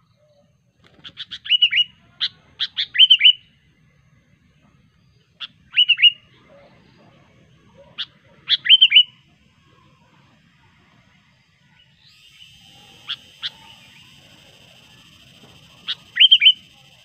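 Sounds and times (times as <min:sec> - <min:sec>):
bulbul whistling song: 0:01.0 - 0:03.6, 0:04.9 - 0:17.0.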